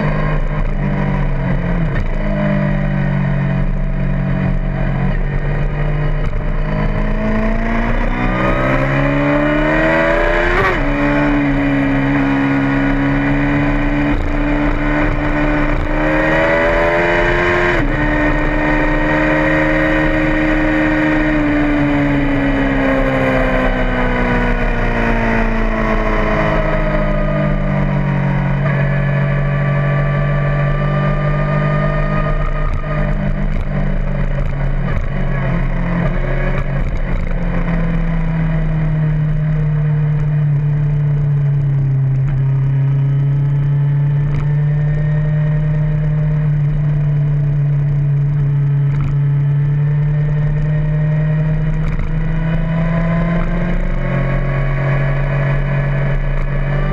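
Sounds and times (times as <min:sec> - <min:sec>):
race car engine: 0:00.0 - 0:56.9
wind and road noise: 0:00.0 - 0:56.9.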